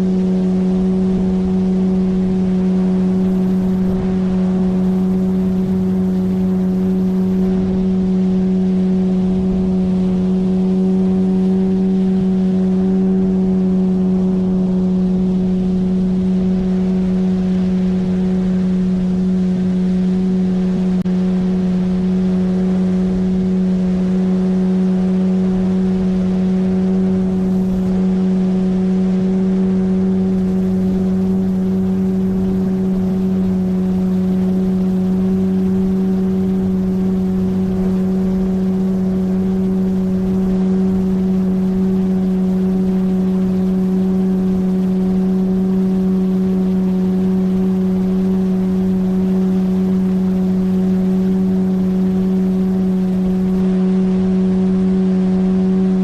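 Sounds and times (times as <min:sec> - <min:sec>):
outboard motor droning: 0:00.0 - 0:56.0
water rushing under hull: 0:00.0 - 0:56.0.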